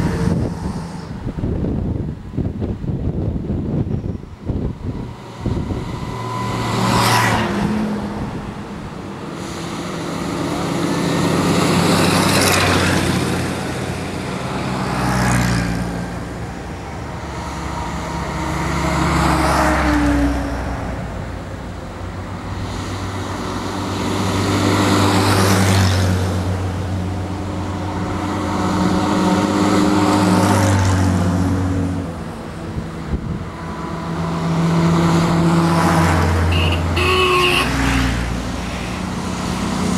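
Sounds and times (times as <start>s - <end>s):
military trucks driving past: 0.0s - 39.9s.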